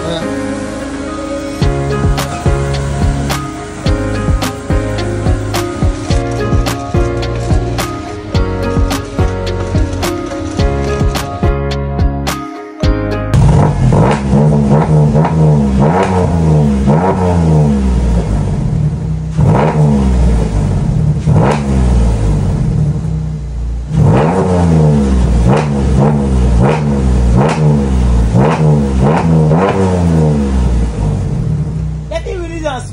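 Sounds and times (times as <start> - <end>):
car engine revving: 0.0 - 11.5, 13.3 - 32.9.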